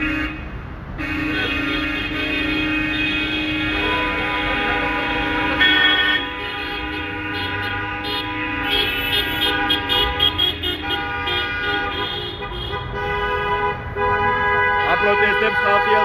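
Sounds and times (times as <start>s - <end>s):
car horns honking: 0.0s - 16.0s.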